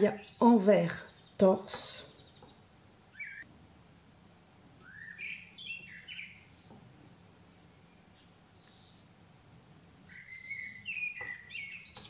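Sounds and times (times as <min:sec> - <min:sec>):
small bird chirping: 0:00.0 - 0:03.5, 0:04.8 - 0:07.0, 0:07.7 - 0:12.0.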